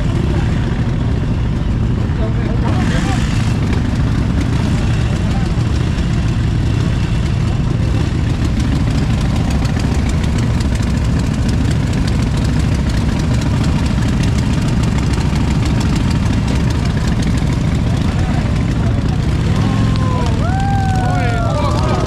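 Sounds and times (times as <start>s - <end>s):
vehicle engines idling: 0.0s - 22.0s.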